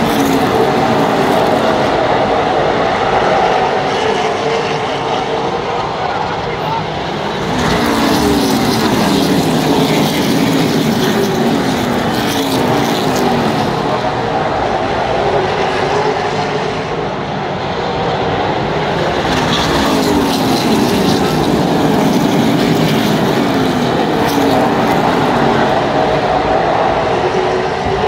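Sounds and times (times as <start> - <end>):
race car engines passing: 0.0 - 28.0.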